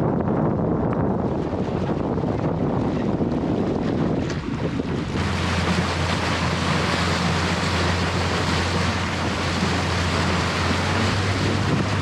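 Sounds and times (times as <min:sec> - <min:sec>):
wind on microphone: 0:00.0 - 0:12.0
speedboat engine humming: 0:00.1 - 0:12.0
water rushing past hull: 0:00.1 - 0:12.0.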